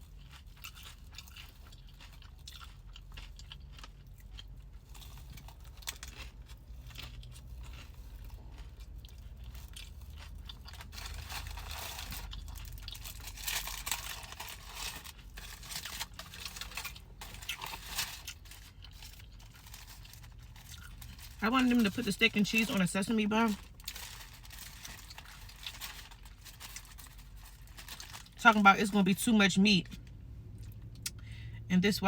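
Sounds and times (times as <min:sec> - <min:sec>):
chewing and crunching food: 0:00.0 - 0:31.3
low steady hum: 0:00.0 - 0:32.0.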